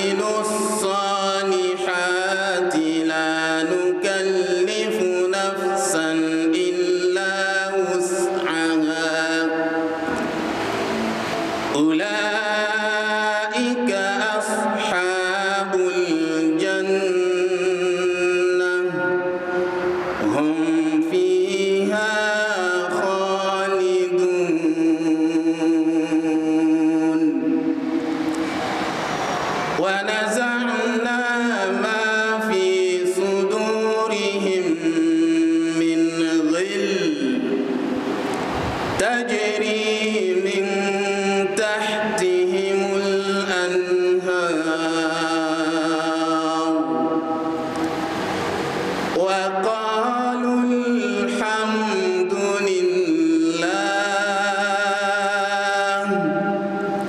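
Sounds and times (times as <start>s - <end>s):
person chanting recitation: 0.0s - 28.4s, 29.7s - 37.9s, 38.9s - 48.0s, 49.0s - 57.0s.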